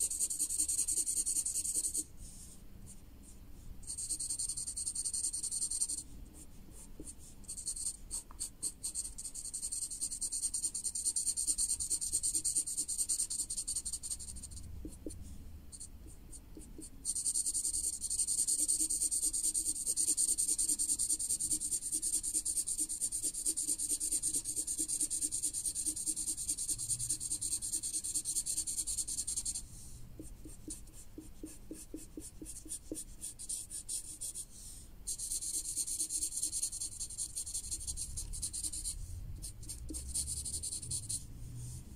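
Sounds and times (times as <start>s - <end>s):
marker scratching on paper: 0.0s - 3.0s, 3.9s - 29.6s, 30.2s - 34.5s, 35.1s - 41.2s.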